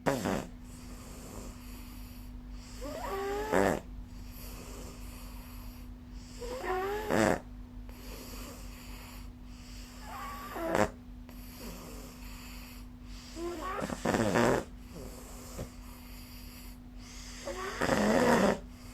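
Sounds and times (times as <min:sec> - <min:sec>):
person snoring: 0:00.0 - 0:02.0, 0:02.6 - 0:18.9.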